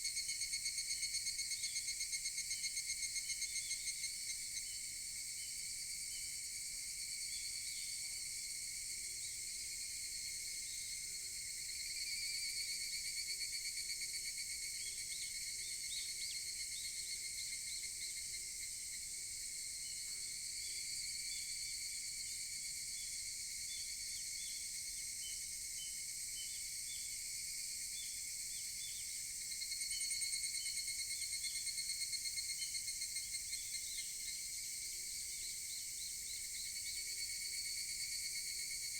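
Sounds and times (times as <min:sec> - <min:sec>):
chorus of cicadas trilling: 0:00.1 - 0:38.9.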